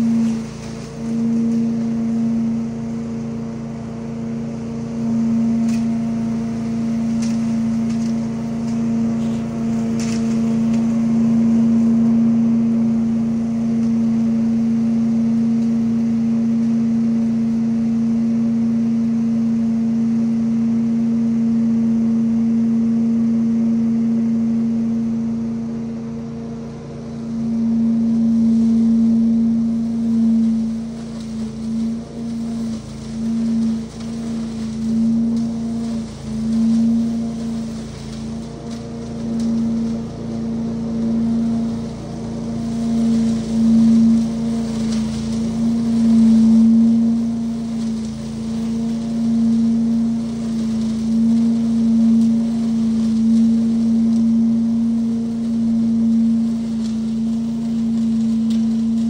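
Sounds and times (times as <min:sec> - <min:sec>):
engine and fan drone: 0:00.0 - 0:59.0.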